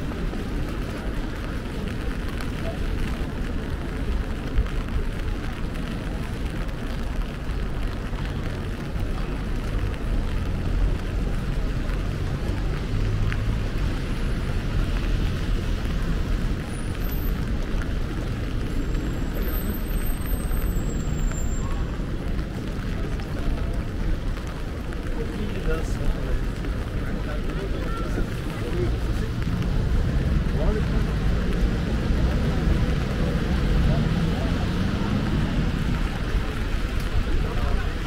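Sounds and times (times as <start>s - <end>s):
low traffic rumble: 0.0s - 38.0s.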